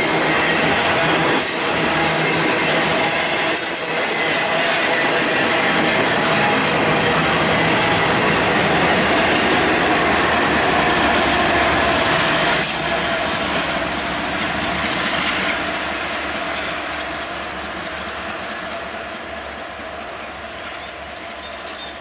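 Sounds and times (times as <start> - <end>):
freight train rolling past: 0.0 - 22.0
steel wheels rumbling on rails: 0.0 - 22.0.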